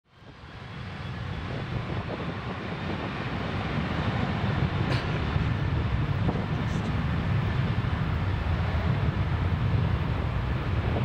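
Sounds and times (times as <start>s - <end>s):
jet engines rushing: 0.2s - 11.0s.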